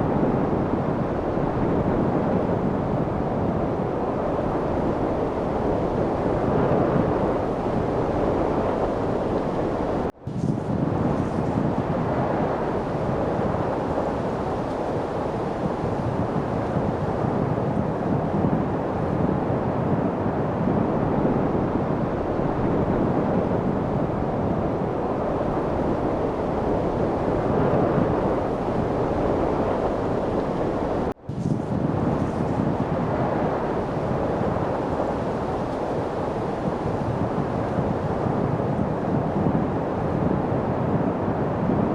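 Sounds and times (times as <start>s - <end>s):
wind rushing: 0.0s - 41.9s.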